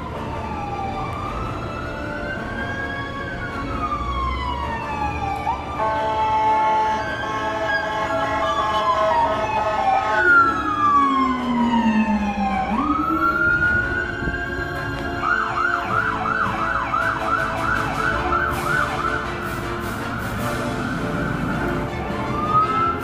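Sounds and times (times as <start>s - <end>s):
emergency vehicle siren: 0.0s - 23.0s.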